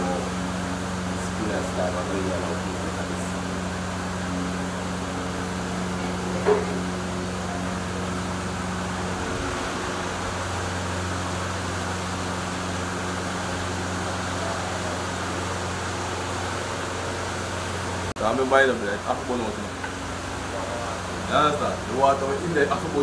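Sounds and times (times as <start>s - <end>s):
machine humming and whirring: 0.0s - 23.0s.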